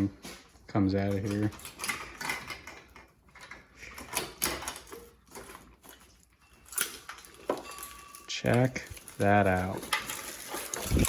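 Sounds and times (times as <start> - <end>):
wiring harness rustling and scraping: 0.0 - 11.0.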